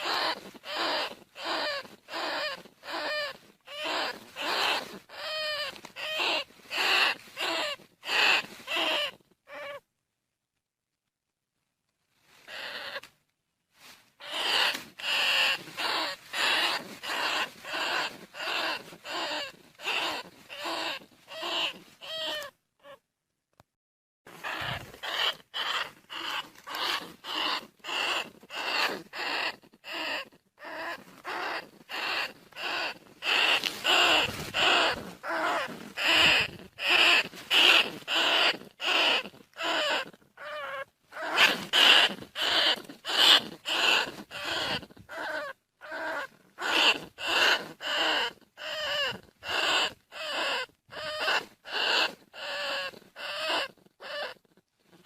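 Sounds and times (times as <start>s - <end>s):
short rough rat calls: 0.0s - 9.9s, 12.4s - 13.2s, 14.1s - 23.1s, 24.3s - 55.0s.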